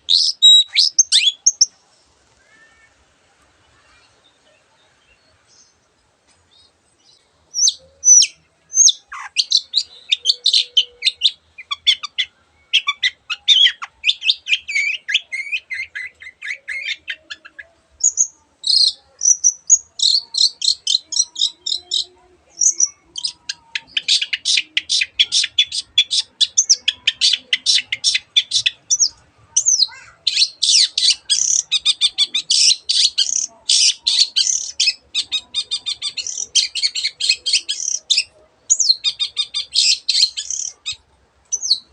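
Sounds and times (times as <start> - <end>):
bird chattering song: 0.0 - 1.7, 6.6 - 41.9.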